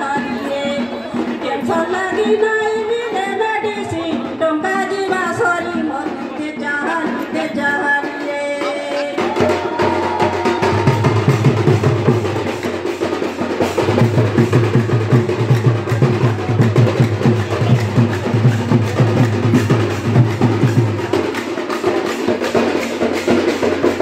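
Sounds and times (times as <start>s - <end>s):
drums beating dance rhythm: 0.0s - 24.0s.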